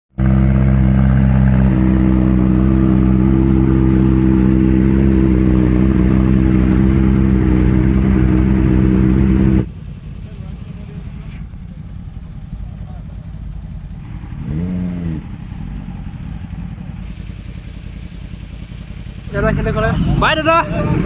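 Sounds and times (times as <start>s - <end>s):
motorcycle engine running: 0.1s - 21.0s.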